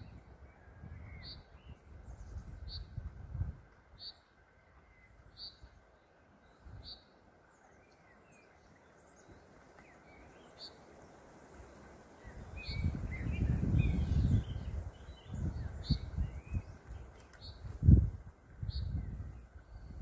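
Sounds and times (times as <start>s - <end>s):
small birds chirping: 0.0s - 3.1s, 3.8s - 20.0s.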